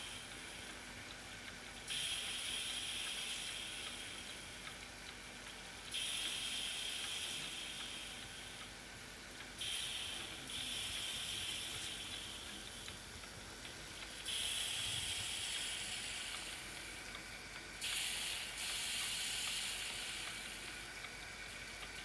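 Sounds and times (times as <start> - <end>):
steam hissing from engine: 0.0 - 1.0, 1.8 - 22.0.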